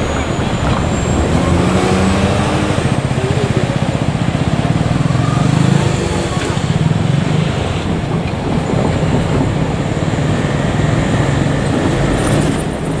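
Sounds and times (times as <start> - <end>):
rail noise: 0.0 - 13.0
train diesel engine drone: 0.0 - 13.0.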